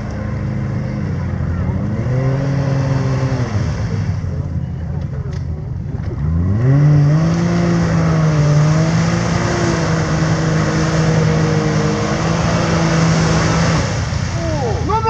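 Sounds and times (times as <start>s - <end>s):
engine revving at high revs: 0.0s - 4.3s, 6.0s - 14.6s.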